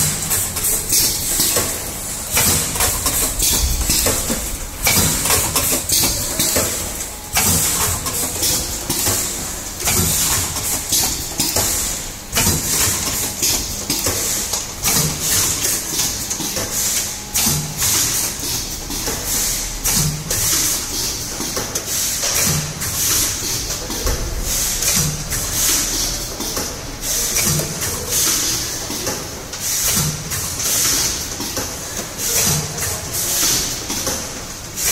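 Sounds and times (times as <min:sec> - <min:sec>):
packing machine clatter and hiss: 0:00.0 - 0:34.9.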